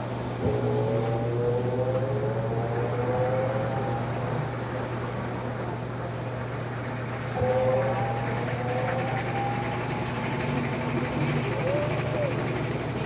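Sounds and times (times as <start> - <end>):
rising spin whine: 0.0 - 13.0
washing machine motor hum: 0.0 - 13.0.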